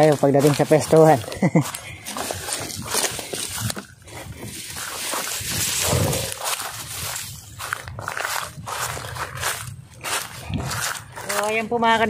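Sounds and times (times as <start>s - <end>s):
dry grass and reeds rustling: 0.0s - 12.0s
footsteps: 0.0s - 12.0s.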